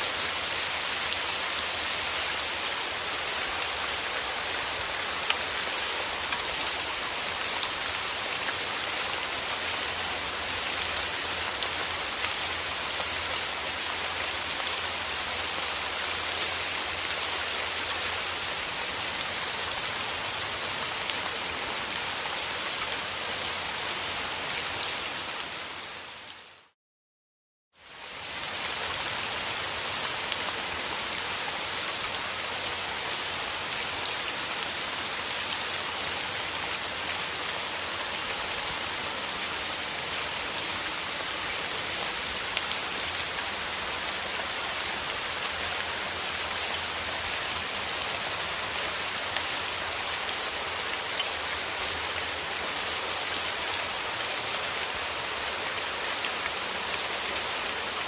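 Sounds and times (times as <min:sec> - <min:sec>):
steady rain: 0:00.0 - 0:26.8, 0:27.7 - 0:58.0.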